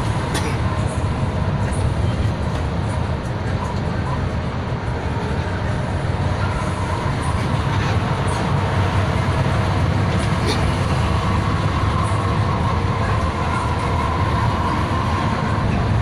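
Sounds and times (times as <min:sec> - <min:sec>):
old engine droning: 0:00.0 - 0:16.0.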